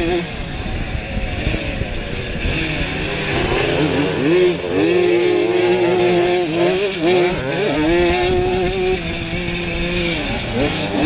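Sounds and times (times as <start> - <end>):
two-stroke bike engine at high revs: 0.0 - 11.0.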